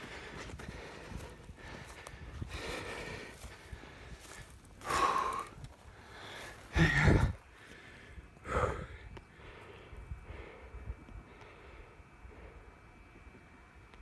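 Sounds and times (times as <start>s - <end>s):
person breathing heavily: 0.0s - 12.9s.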